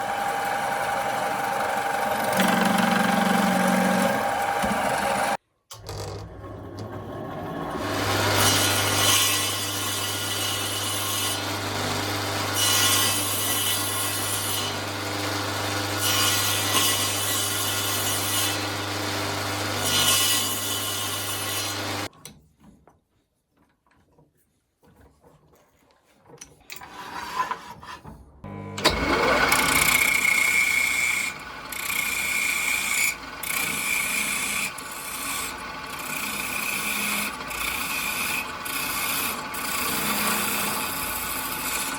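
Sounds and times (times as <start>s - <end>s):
power tool working wood: 0.0s - 22.1s, 28.5s - 41.9s.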